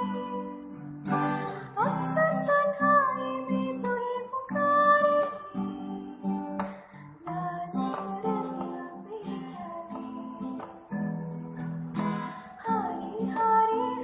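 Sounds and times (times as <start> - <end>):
person singing: 0.0 - 6.6, 7.2 - 10.9, 12.0 - 14.0
strummed acoustic guitar: 0.0 - 14.0.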